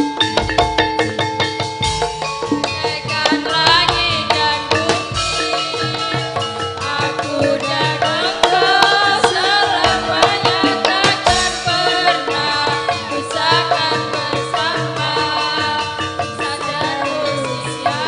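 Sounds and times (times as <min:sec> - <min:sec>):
bamboo slit drums playing: 0:00.0 - 0:18.0
woman singing through microphone: 0:02.6 - 0:18.0.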